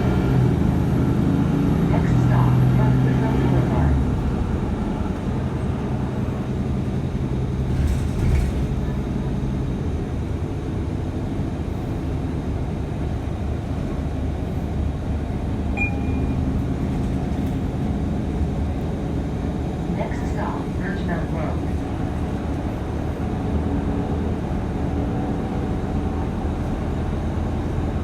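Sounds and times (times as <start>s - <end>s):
bus engine hum: 0.0s - 28.0s
road rumble: 0.0s - 28.0s.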